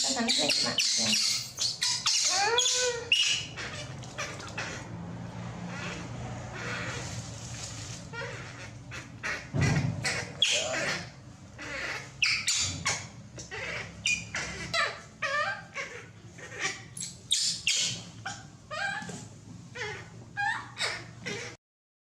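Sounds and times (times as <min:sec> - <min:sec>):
baby monkey squealing: 0:00.0 - 0:04.8, 0:08.1 - 0:21.6.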